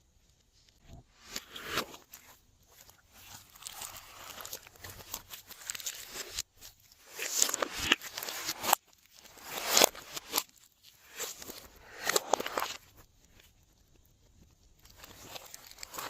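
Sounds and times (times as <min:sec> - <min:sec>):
hands squishing slime: 0:01.5 - 0:16.0.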